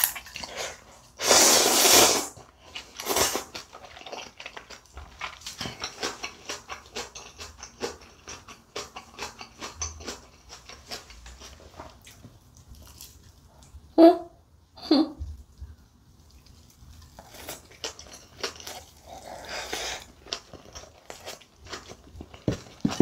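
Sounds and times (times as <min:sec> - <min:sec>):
chewing noodles: 0:01.8 - 0:13.7, 0:16.1 - 0:23.0.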